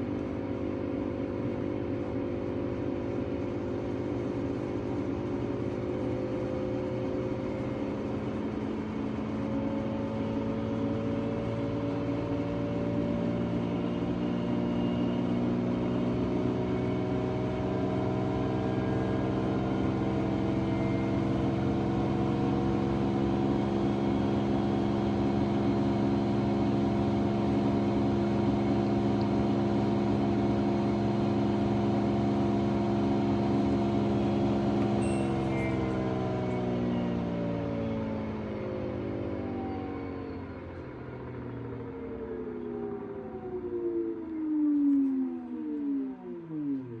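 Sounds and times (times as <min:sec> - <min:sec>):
washing machine spin motor whine: 0:00.0 - 0:44.8.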